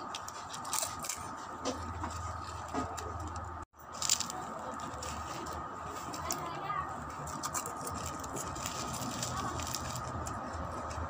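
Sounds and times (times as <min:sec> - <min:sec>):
plastic bag crinkling: 0:02.1 - 0:11.0.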